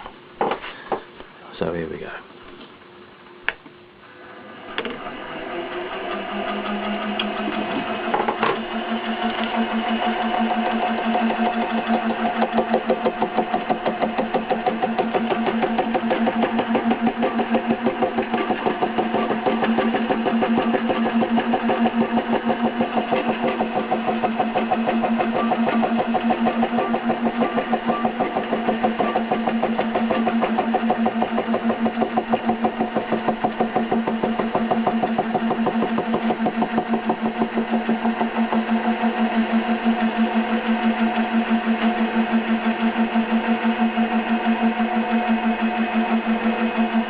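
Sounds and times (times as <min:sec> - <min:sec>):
milling machine humming and pulsing: 0:03.1 - 0:47.0.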